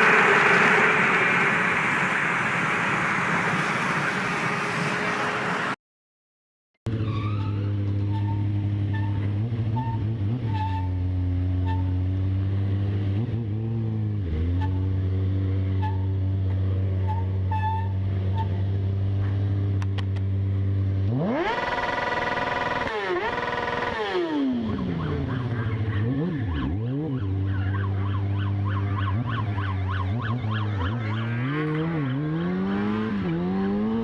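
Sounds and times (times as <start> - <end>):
engine idling and revving: 0.0 - 5.8, 6.9 - 34.0.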